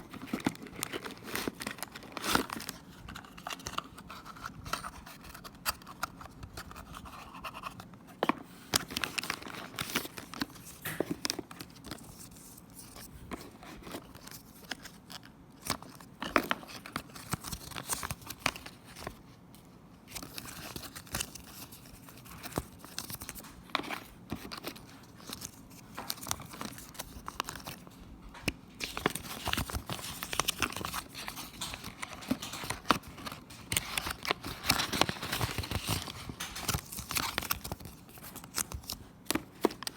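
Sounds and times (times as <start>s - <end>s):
packaging rustling and crinkling: 0.0s - 19.3s, 20.1s - 39.9s.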